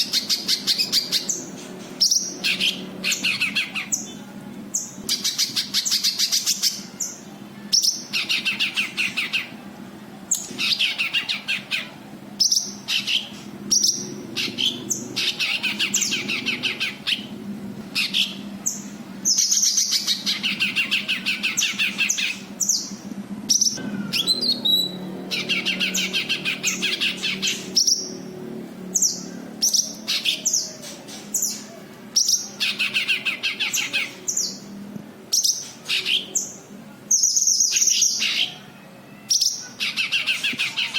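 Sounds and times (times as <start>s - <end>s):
bird chattering trills: 0.0s - 4.2s, 4.8s - 9.6s, 10.3s - 17.3s, 17.9s - 28.3s, 28.9s - 34.7s, 39.3s - 40.9s.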